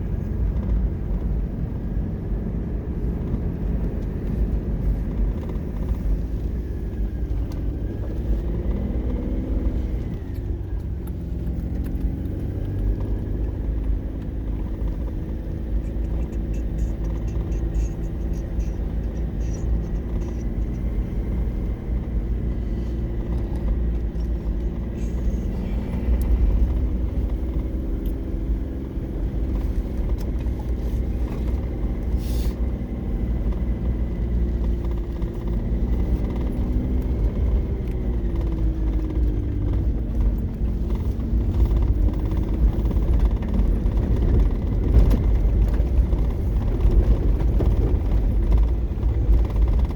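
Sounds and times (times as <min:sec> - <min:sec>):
engine running low rumble: 0:00.0 - 0:49.9.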